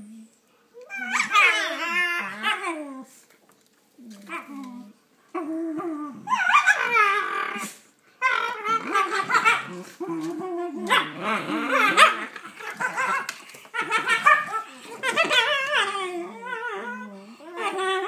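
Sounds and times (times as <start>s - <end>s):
puppies growling and yipping: 0.9s - 3.1s, 4.0s - 18.0s.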